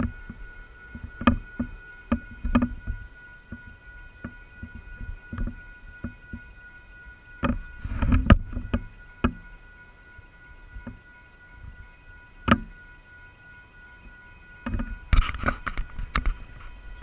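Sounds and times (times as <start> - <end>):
steady high ringing tone: 0.0 - 17.0.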